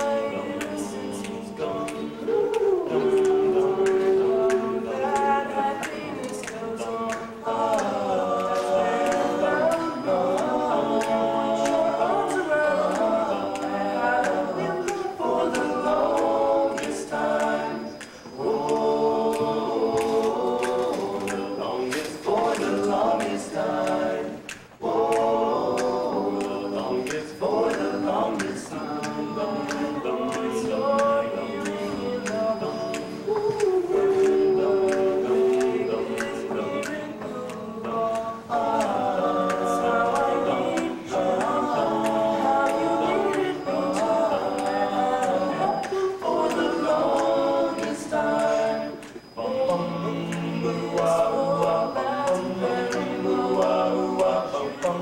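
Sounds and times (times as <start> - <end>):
boys singing a cappella: 0.0 - 55.0.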